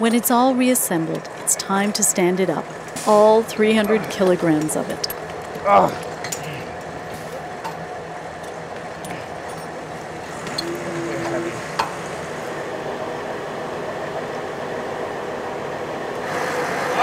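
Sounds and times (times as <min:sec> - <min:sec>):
crane engine running: 0:00.0 - 0:17.0.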